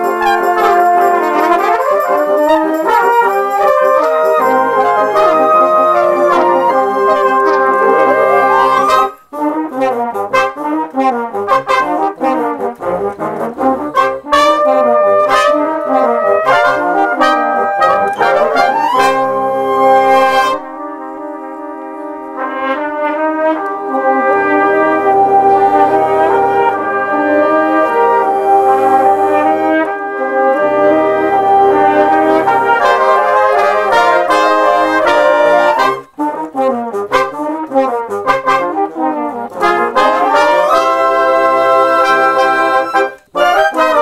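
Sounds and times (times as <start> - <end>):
concert band music: 0.0 - 44.0
trombones and trumpets: 0.0 - 44.0.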